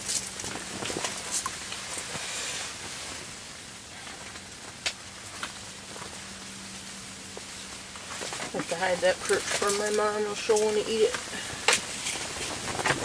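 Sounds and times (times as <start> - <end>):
faint steady hum: 0.0 - 13.0
wind-driven snow hissing on shelter: 0.0 - 13.0.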